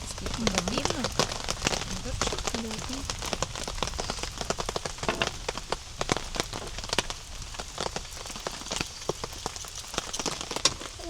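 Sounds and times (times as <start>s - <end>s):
heavy rain on a shelter: 0.0s - 11.0s.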